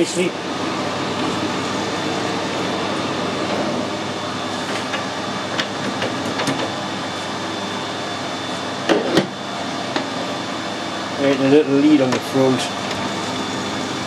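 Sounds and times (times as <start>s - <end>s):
metal lathe humming: 0.0s - 14.0s.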